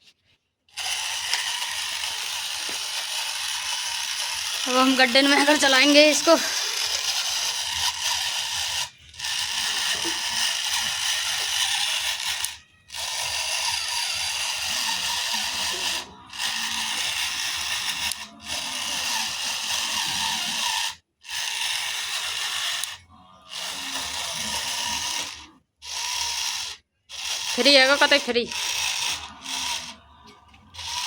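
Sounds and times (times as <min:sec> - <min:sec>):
toy tractor motor whirring: 0:00.0 - 0:31.0.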